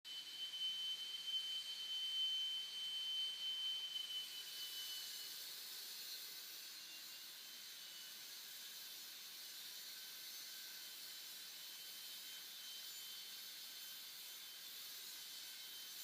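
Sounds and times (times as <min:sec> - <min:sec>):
electric motor whine: 0:00.1 - 0:16.0
steady hiss: 0:01.8 - 0:16.0.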